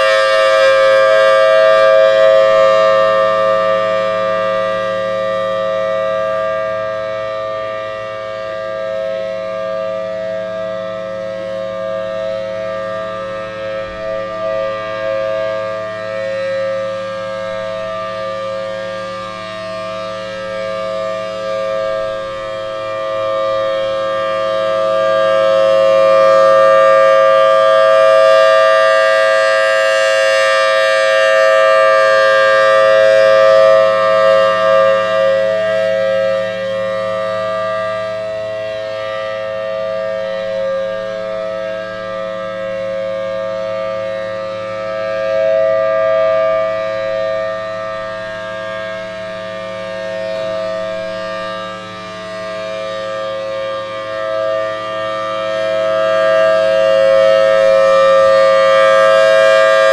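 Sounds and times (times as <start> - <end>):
two-tone civil defense siren: 0.0 - 59.9.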